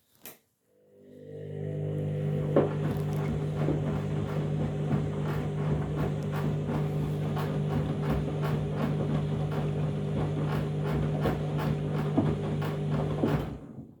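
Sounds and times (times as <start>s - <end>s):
washing machine motor hum: 0.8s - 14.0s.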